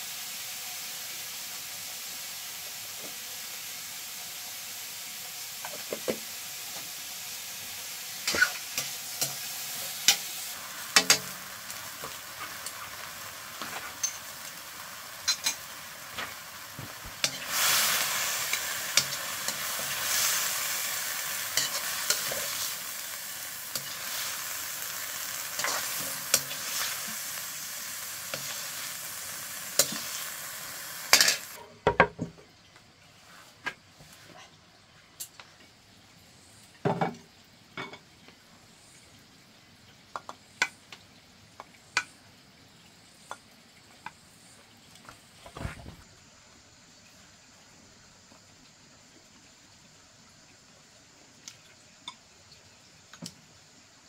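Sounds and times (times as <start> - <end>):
food sizzling in a pan: 0.0 - 32.3, 33.2 - 54.0.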